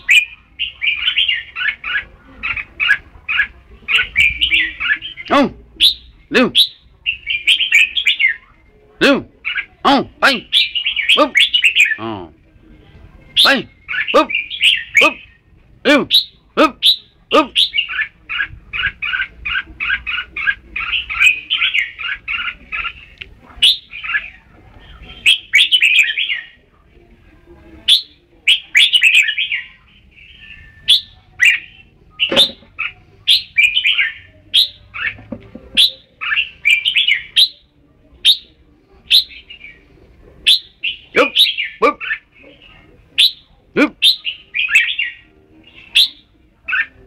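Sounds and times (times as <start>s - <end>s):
bulbul singing: 0.0s - 12.3s, 13.1s - 26.8s, 27.7s - 47.0s.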